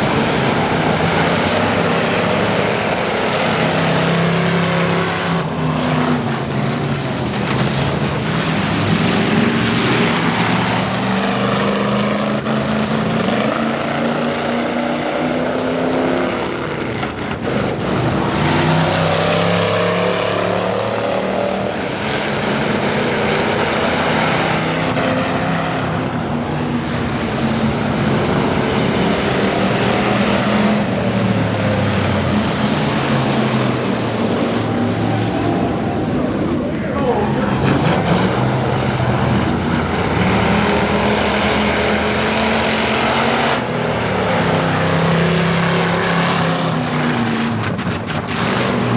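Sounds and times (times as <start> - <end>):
race car engines revving: 0.0 - 48.9.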